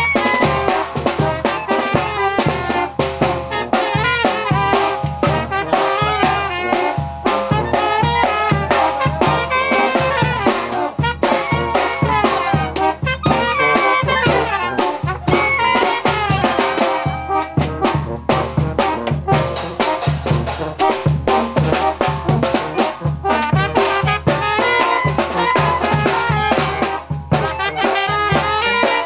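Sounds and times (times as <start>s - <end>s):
bass drum beat: 0.0s - 29.0s
brass band playing: 0.0s - 29.0s.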